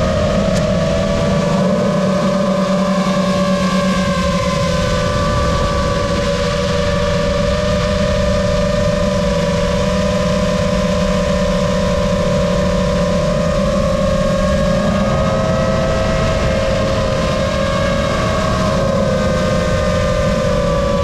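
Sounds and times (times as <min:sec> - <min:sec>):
low rushing rumble: 0:00.0 - 0:21.0
quadcopter motors whining: 0:00.0 - 0:21.0.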